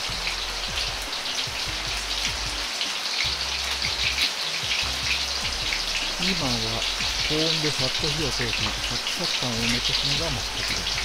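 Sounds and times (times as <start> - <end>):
deep-frying sizzle with crackling: 0.0 - 11.0.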